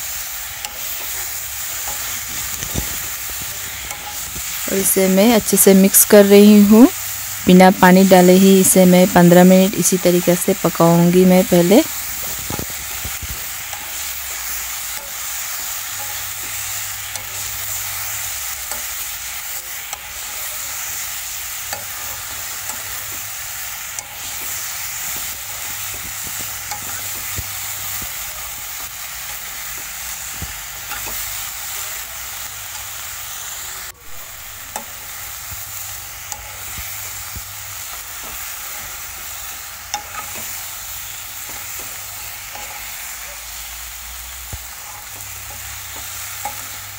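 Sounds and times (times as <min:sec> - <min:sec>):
food sizzling in a wok: 0:00.0 - 0:46.9.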